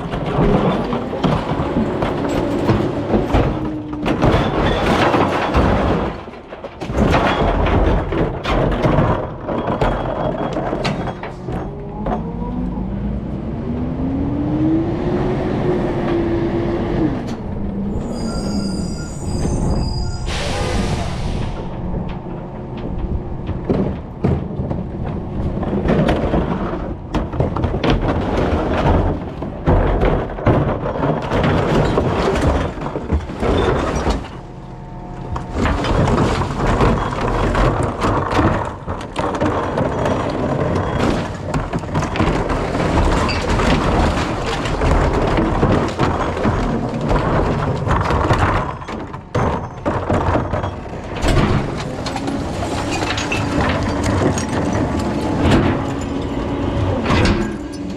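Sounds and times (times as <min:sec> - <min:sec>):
thumps cracks and crunching: 0:00.0 - 0:12.2, 0:22.0 - 0:34.5, 0:35.3 - 0:57.9.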